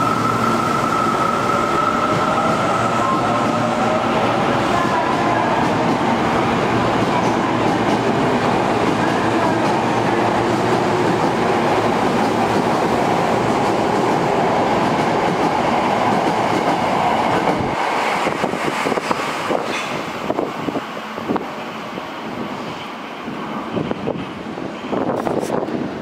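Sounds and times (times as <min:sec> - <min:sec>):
subway train wheel and rail noise: 0:00.0 - 0:26.0.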